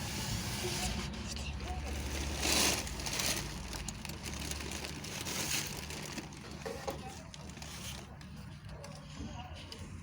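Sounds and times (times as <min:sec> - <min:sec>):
scraping and rustling handling: 0:00.0 - 0:10.0.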